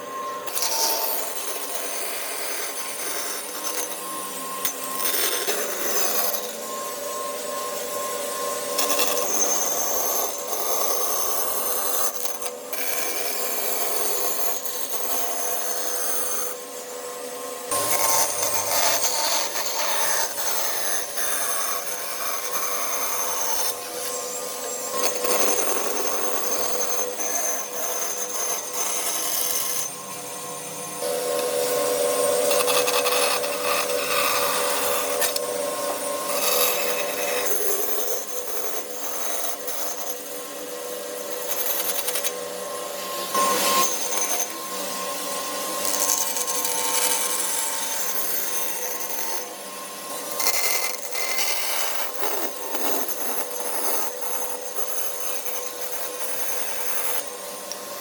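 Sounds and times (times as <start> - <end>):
rasping of wood cutting: 0.0 - 16.7, 17.7 - 57.8
power tool motor whine: 0.0 - 58.0.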